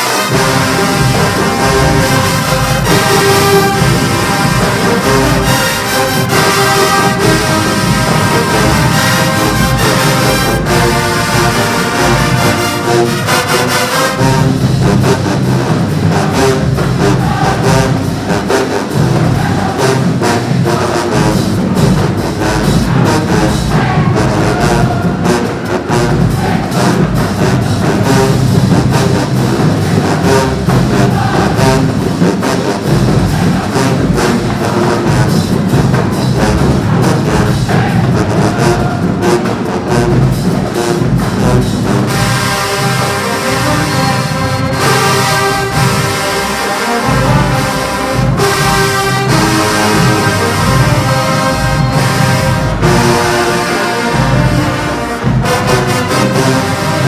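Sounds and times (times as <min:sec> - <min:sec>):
low horns: 0:00.0 - 0:57.0
marching band brass playing: 0:00.0 - 0:57.0
percussion: 0:00.0 - 0:57.0.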